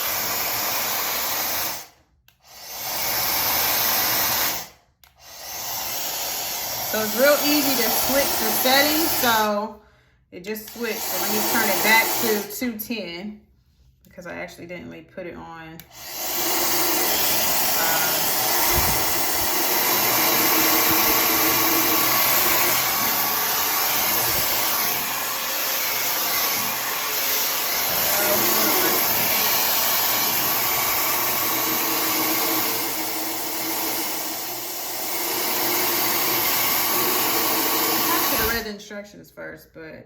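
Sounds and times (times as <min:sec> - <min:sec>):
hair dryer blowing: 0:00.0 - 0:09.8, 0:10.4 - 0:13.0, 0:15.8 - 0:38.8.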